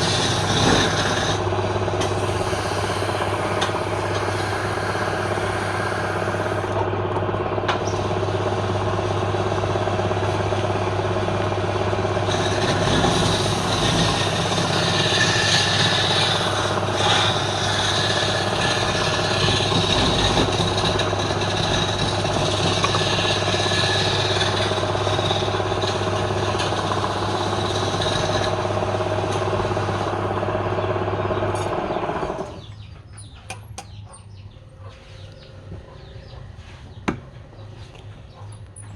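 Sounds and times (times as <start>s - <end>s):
wood lathe motor hum: 0.0s - 32.7s.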